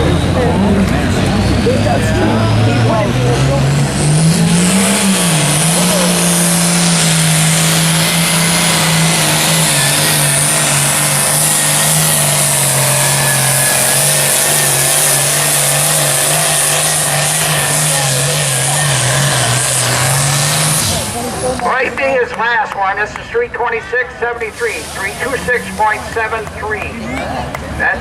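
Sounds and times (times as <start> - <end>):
tractor engine working under load: 0.0 - 28.0.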